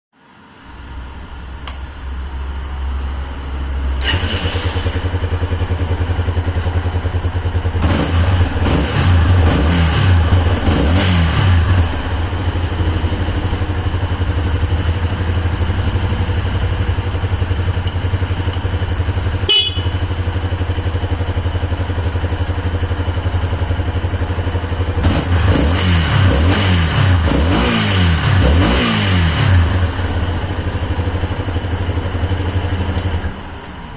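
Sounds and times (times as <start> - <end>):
motorcycle engine idling and revving: 0.2 - 33.9.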